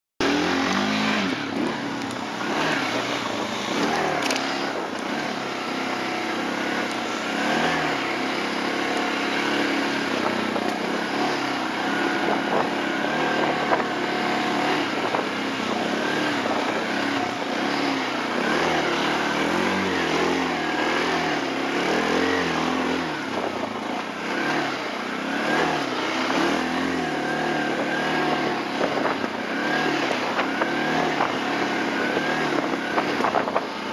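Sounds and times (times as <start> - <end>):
quad bike engines revving: 0.2 - 33.9.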